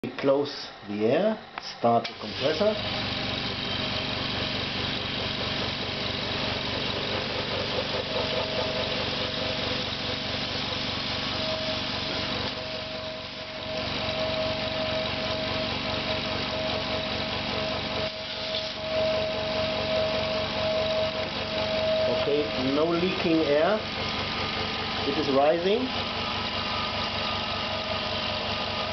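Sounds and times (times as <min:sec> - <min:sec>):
air compressor hum and whine: 0:00.0 - 0:28.9.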